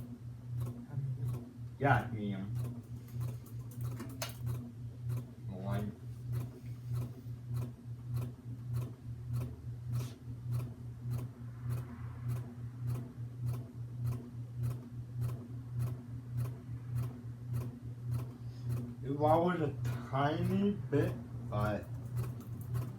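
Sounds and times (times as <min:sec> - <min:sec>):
ceiling fan motor hum: 0:00.0 - 0:22.9
fan ticking: 0:00.0 - 0:22.9.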